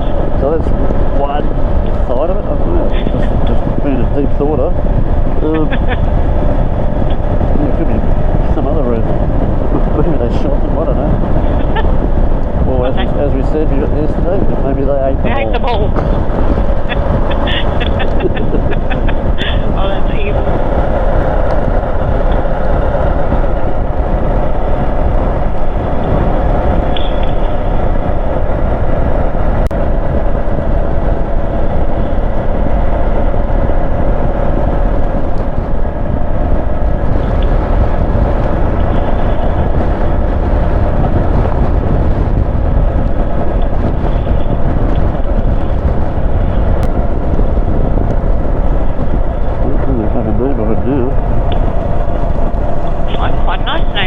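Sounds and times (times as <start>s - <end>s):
motorcycle engine drone: 0.0s - 54.0s
wind noise: 0.0s - 54.0s.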